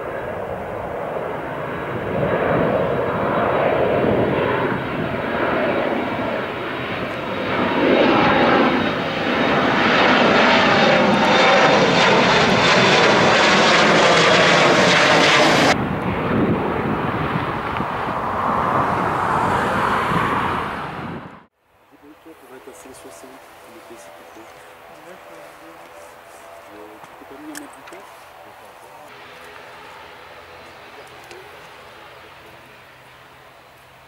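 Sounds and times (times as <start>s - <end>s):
jet engines roaring overhead: 0.0s - 34.0s.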